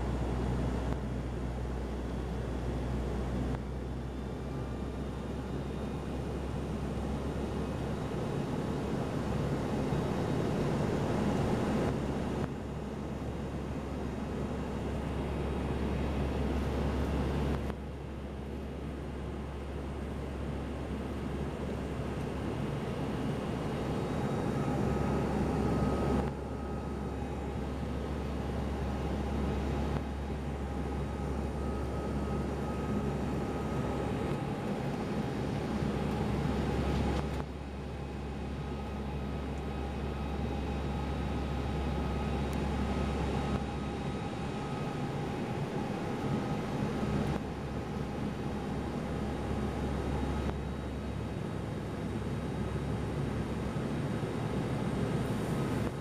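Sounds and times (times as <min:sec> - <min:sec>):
turboprop cabin drone: 0:00.0 - 0:56.0.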